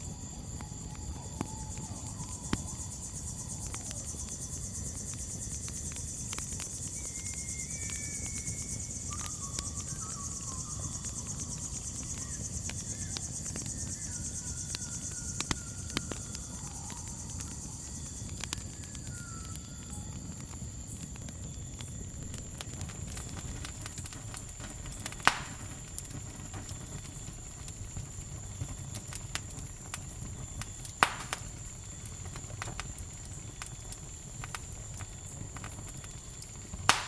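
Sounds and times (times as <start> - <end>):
campfire crackling: 0.0 - 37.0
crickets chirring: 0.0 - 37.0
faint whistles: 0.0 - 37.0.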